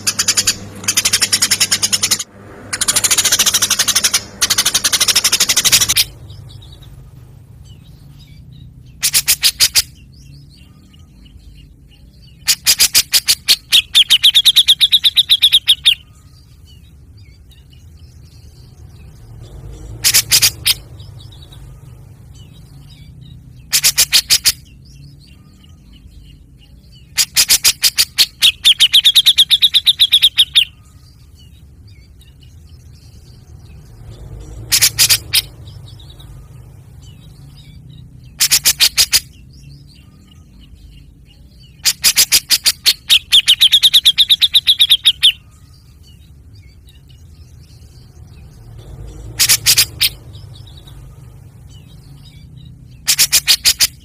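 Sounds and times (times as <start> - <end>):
bird chirping in rapid bursts: 0.0 - 54.0
steady low hum: 0.0 - 54.0.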